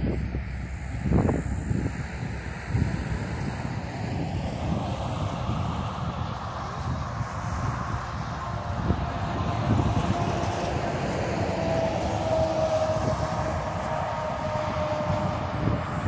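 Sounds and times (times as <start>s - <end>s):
distant engine drone: 0.0s - 16.0s
wind rumbling on microphone: 0.0s - 16.0s.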